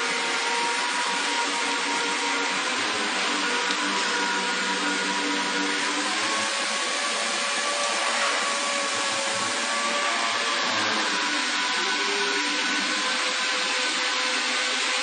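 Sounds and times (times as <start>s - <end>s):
cnc router whine and hiss: 0.0s - 15.0s.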